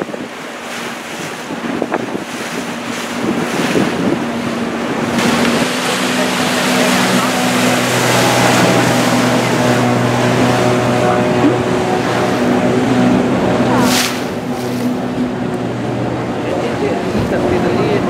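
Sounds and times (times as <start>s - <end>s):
boat engine humming: 0.0s - 18.0s
water and wind rushing: 0.0s - 18.0s.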